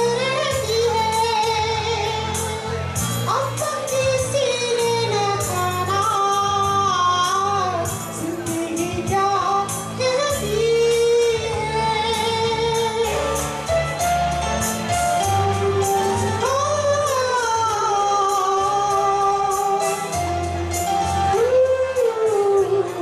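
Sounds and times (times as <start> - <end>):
backing track with steady beat: 0.0 - 23.0.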